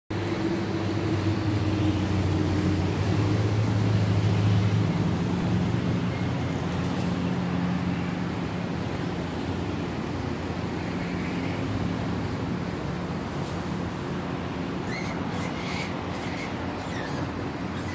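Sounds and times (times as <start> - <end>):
outdoor background noise: 0.1 - 17.9
vehicle engine humming: 0.1 - 17.9.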